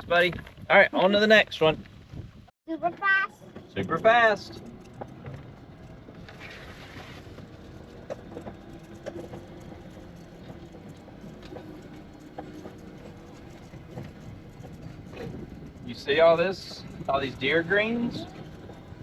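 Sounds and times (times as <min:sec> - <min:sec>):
light knocks and rattles: 0:02.9 - 0:19.0
small farm vehicle running: 0:02.9 - 0:19.0.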